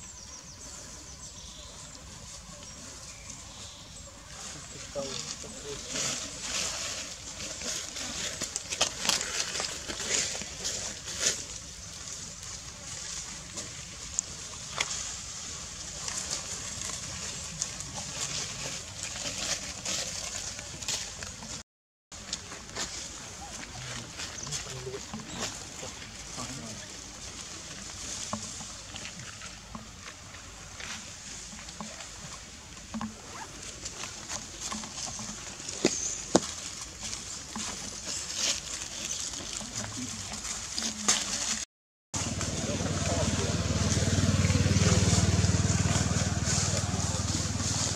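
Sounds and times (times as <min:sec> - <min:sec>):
dry leaves rustling and crackling: 0:00.1 - 0:47.9.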